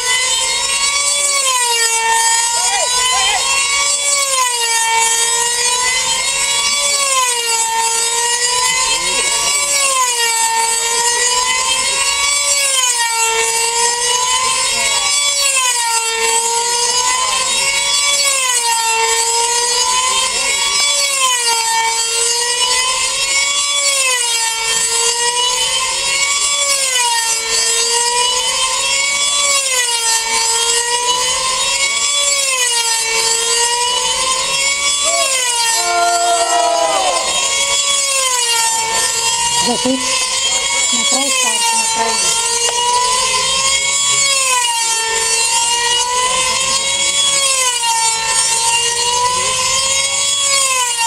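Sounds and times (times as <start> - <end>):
model engine screaming whine: 0.0 - 51.0.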